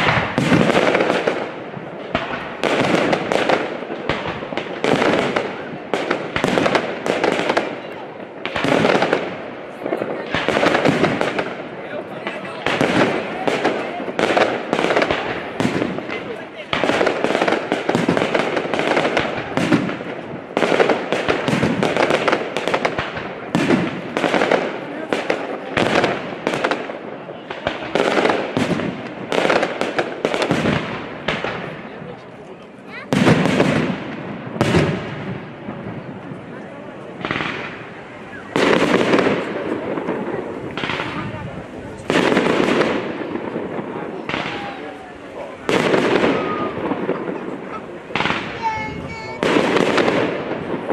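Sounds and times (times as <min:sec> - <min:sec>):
firework bangs: 0:00.0 - 0:50.9
firework crackling: 0:00.0 - 0:50.9.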